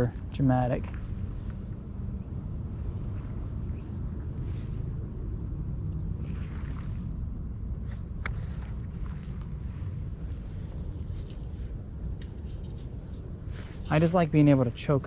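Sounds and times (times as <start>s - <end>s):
constant low rumble: 0.0s - 15.0s
insects trilling: 0.4s - 15.0s.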